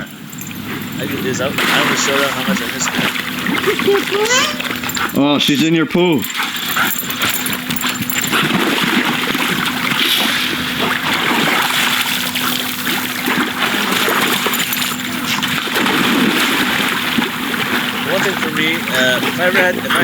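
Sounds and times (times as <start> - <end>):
pool water splashing: 0.0 - 20.0
steady low hum: 0.0 - 20.0.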